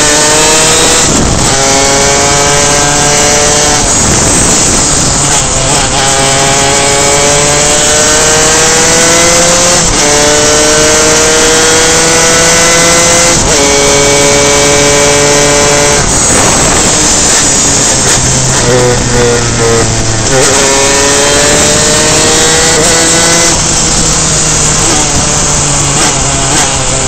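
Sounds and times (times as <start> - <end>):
kart engine at full throttle: 0.0 - 27.0
wind noise rushing: 0.0 - 27.0.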